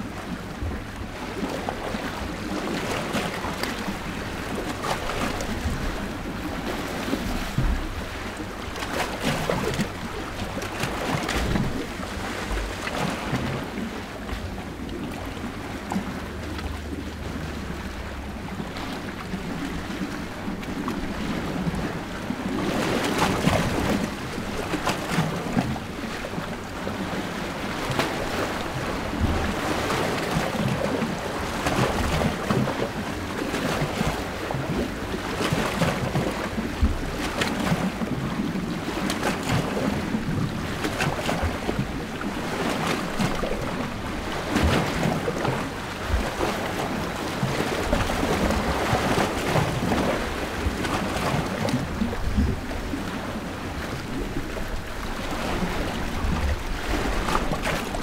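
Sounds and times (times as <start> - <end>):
sea waves splashing at shore: 0.0 - 58.0.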